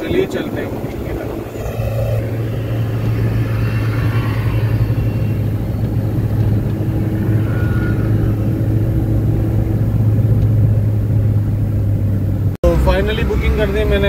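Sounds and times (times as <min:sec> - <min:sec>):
car engine and road drone: 0:00.0 - 0:14.0.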